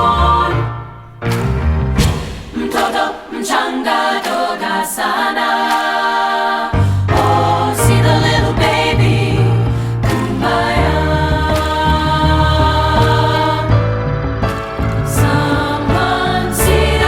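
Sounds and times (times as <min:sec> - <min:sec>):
women's chorus singing: 0:00.0 - 0:00.8, 0:02.4 - 0:13.8, 0:15.1 - 0:17.0.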